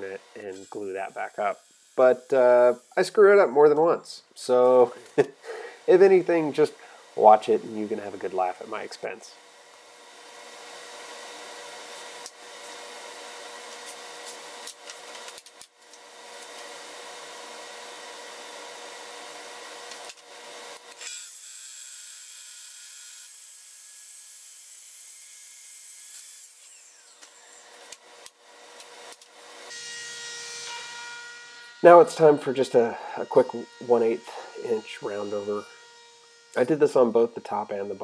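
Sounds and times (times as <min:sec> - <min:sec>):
track saw cutting wood: 0:00.0 - 0:03.3, 0:09.6 - 0:38.0.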